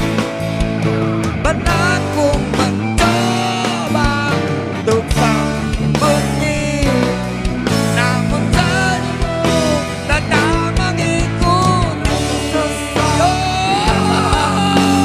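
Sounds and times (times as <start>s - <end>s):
bass: 0.0s - 15.0s
bending lead guitar melody: 0.0s - 15.0s
drums: 0.0s - 15.0s
guitars: 0.0s - 15.0s.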